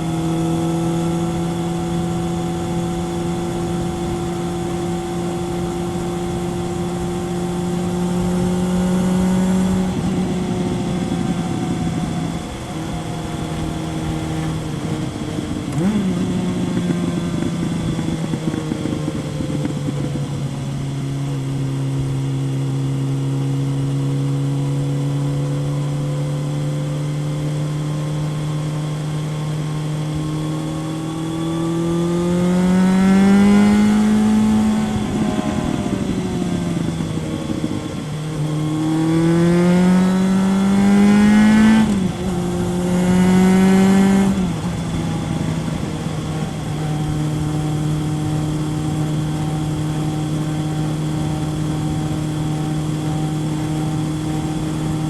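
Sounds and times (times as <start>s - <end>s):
wind noise: 0.0s - 22.8s, 30.0s - 55.0s
motorcycle engine riding: 0.0s - 55.0s.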